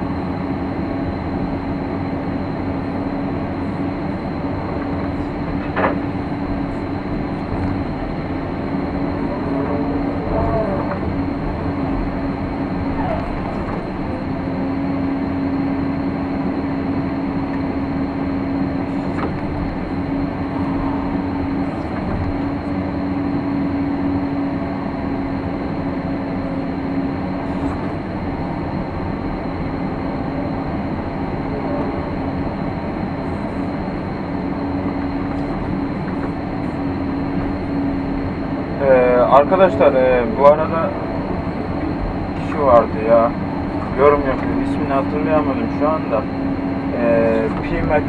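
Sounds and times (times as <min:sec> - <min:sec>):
excavator engine droning: 0:00.0 - 0:48.0.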